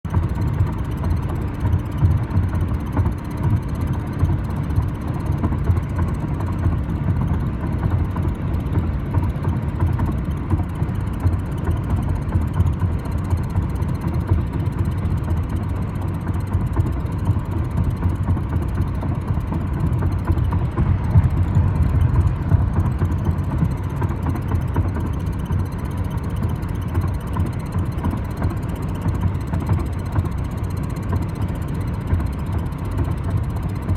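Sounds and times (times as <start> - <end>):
road and drivetrain rumble: 0.0 - 33.9.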